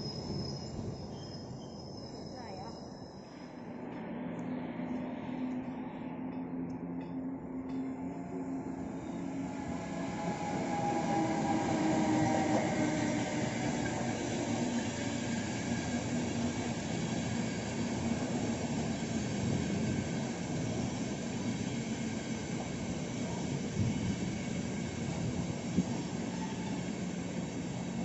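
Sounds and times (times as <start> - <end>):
electric locomotive whine: 0.0 - 28.0
coach wheels rumbling on rails: 3.6 - 28.0.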